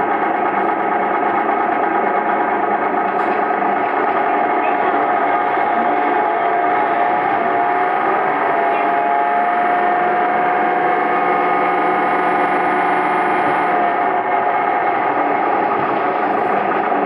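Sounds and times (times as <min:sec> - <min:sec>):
high whine: 0:00.0 - 0:17.0
railcar engine and running noise: 0:00.0 - 0:17.0.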